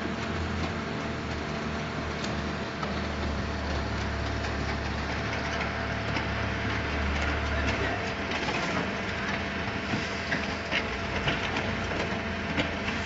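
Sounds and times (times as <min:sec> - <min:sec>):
concrete mixer pump hum and rattle: 0:00.0 - 0:13.0
wheel loader engine drone: 0:00.0 - 0:13.0.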